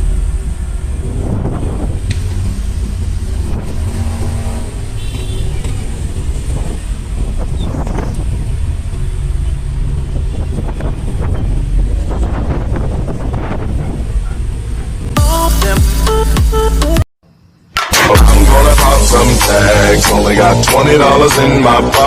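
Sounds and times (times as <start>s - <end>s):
road noise: 0.0s - 22.0s
vehicle engine rumble: 0.0s - 22.0s.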